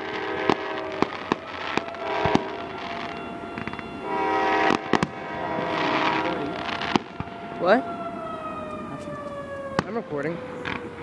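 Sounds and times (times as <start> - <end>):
fireworks bangs and pops: 0.0 - 7.8, 8.7 - 11.0
multi-note horn blasts: 0.0 - 11.0.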